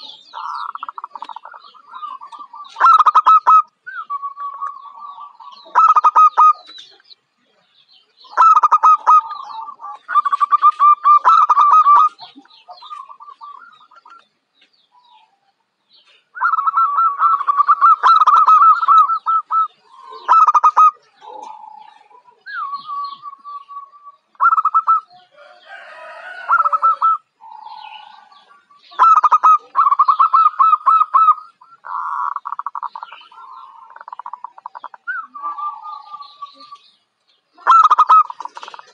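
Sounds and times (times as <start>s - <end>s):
dove cooing: 0.0s - 7.1s, 8.2s - 14.2s, 16.1s - 36.9s, 37.6s - 38.9s.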